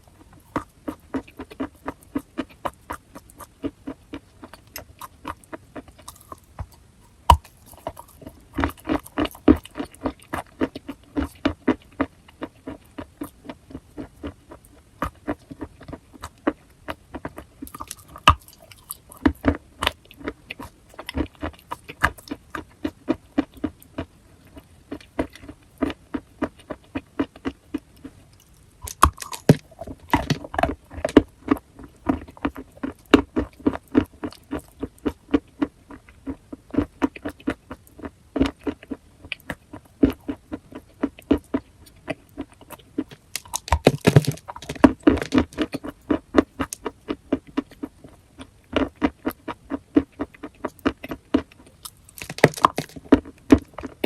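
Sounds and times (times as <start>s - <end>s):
teeth crunching chalk: 0.0s - 54.0s.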